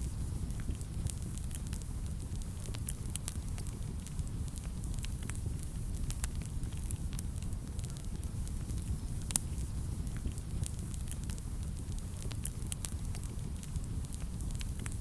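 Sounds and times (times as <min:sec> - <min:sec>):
fire crackles and pops: 0:00.0 - 0:15.0
fire flames rumbling: 0:00.0 - 0:15.0.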